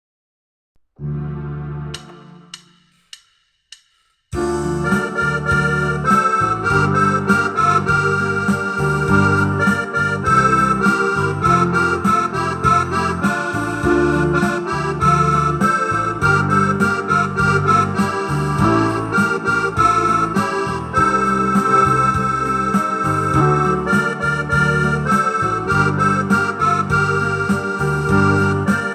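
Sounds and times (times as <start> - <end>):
keyboard melody with accompaniment: 1.0 - 2.7, 4.4 - 28.9.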